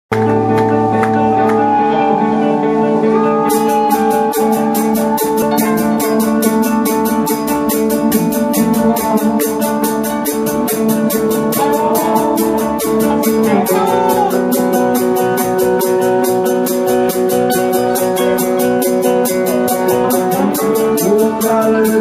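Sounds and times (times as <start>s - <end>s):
drums: 0.1s - 22.0s
electric guitars: 0.1s - 22.0s
quick hi-hat beat: 3.6s - 22.0s.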